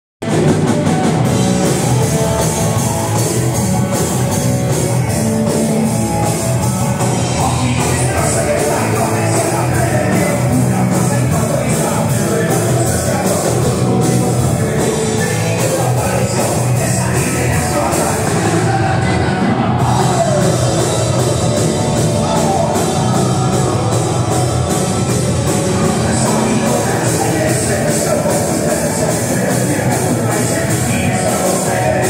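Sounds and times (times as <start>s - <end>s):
distorted guitars: 0.2s - 32.0s
fast drum beat: 0.2s - 32.0s
punk band playing: 0.2s - 32.0s
person singing: 0.3s - 32.0s.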